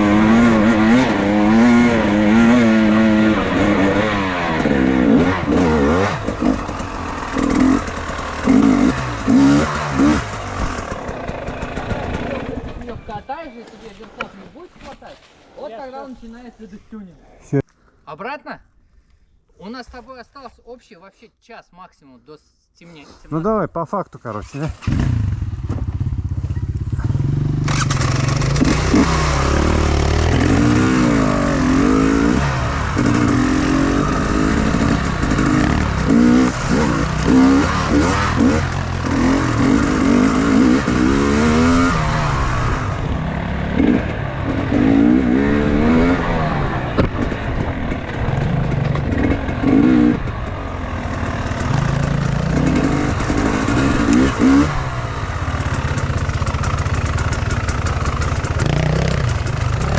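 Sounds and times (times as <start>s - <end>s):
motorcycle engine revving: 0.0s - 14.2s, 24.6s - 59.9s.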